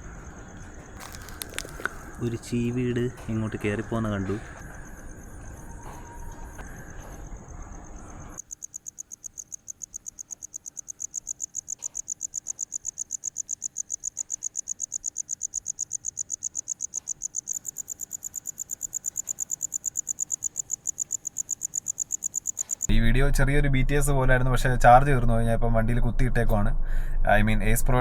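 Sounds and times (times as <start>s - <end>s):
crickets chirping: 0.0s - 22.9s.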